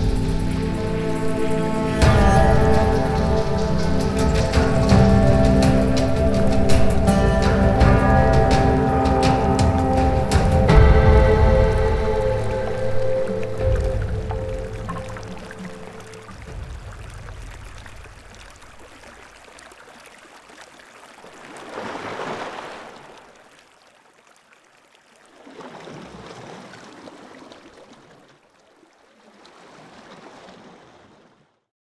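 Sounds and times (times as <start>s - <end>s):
river water flowing and lapping: 0.0s - 31.7s.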